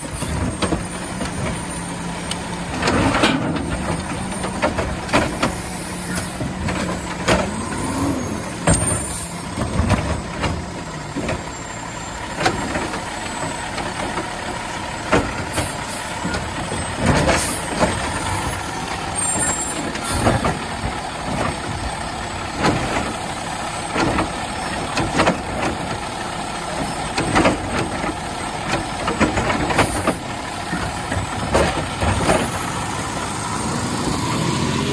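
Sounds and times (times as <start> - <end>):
garbage truck engine drone: 0.0 - 34.9.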